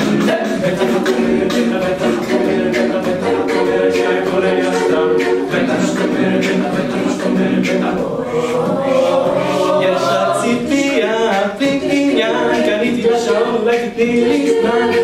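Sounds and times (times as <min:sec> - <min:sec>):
a cappella group singing: 0:00.0 - 0:15.0
vocal percussion beat: 0:00.0 - 0:15.0.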